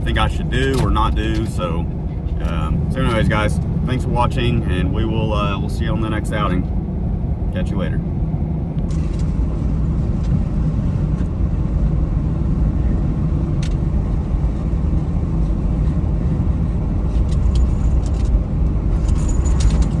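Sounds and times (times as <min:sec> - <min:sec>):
road and engine rumble: 0:00.0 - 0:20.0.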